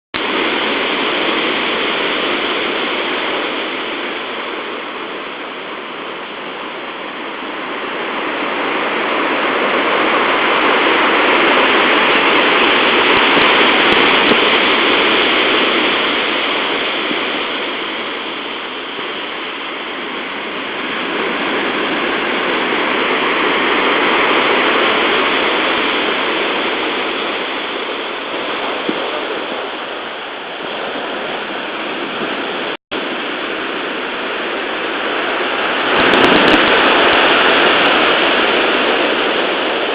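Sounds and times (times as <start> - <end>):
heavy surf breaking on beach: 0.2 - 39.9.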